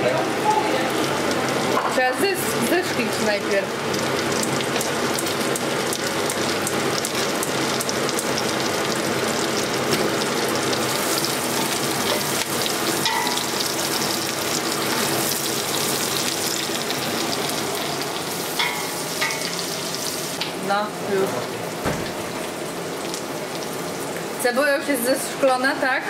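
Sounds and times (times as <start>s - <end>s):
onion sizzling in hot fat: 0.0s - 26.0s.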